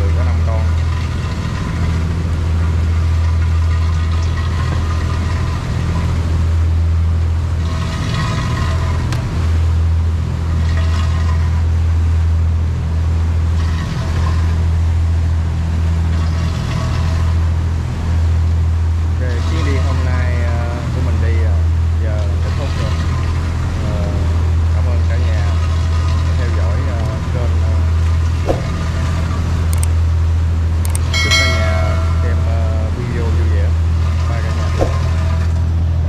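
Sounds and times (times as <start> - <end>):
boat engine drone: 0.0 - 36.0.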